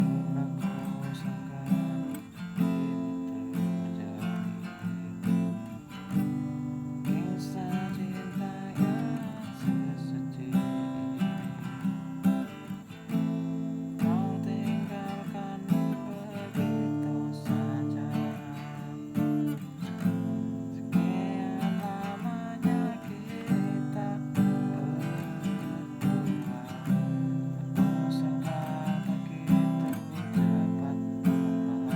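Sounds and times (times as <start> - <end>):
man singing: 0.0 - 6.2, 7.0 - 13.3, 13.9 - 31.9
acoustic guitar strumming: 0.0 - 31.9.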